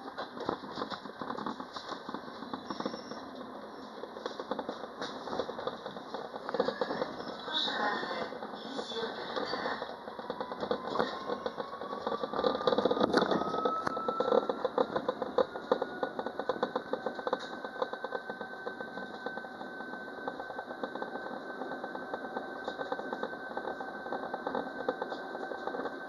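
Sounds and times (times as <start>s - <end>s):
rapid irregular clatter: 0.0s - 26.0s
tram motor whine: 0.0s - 26.0s.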